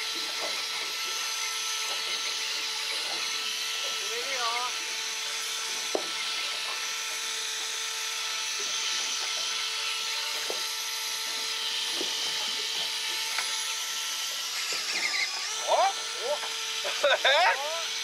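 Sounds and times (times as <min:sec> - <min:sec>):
motor whining: 0:00.0 - 0:18.0.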